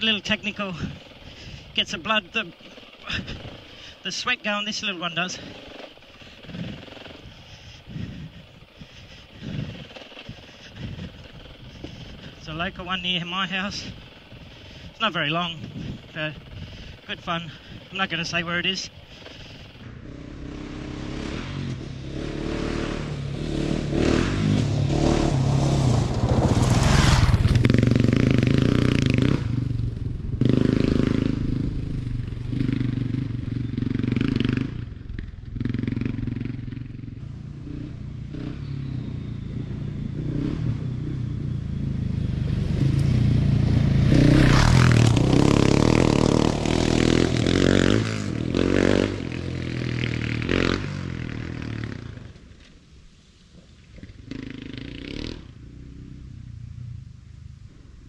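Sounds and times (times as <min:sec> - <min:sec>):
motorcycle engine revving: 0:00.0 - 0:52.7, 0:53.9 - 0:58.0.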